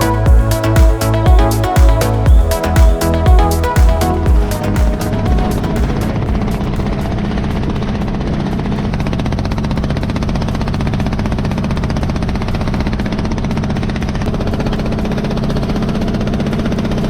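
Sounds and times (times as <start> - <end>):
engine idling with low hum: 0.0 - 17.0.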